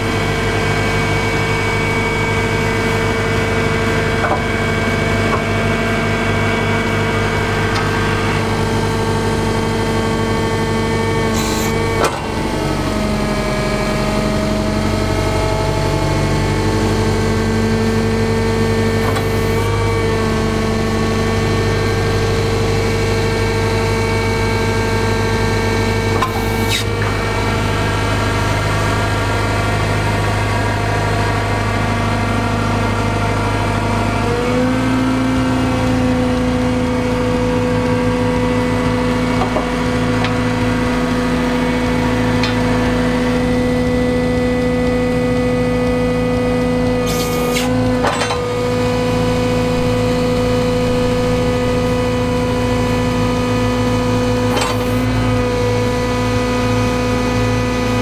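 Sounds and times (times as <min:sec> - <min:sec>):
forklift engine and hydraulic hum: 0:00.0 - 0:58.0.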